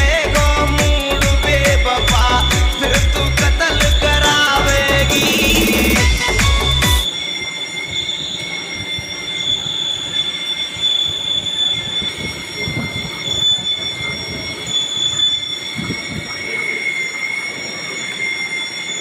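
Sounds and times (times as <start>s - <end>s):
lathe running with high squeal: 0.0s - 19.0s.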